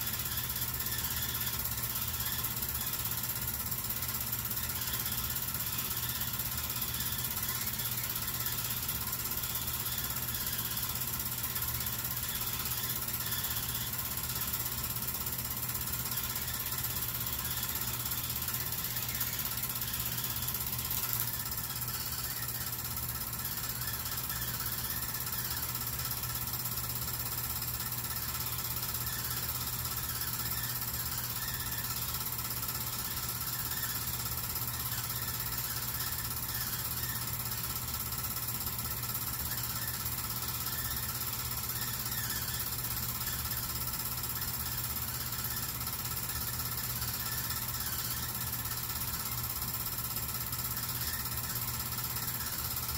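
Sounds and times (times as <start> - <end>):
film projector clatter: 0.0 - 52.9
projector hum: 0.0 - 52.9.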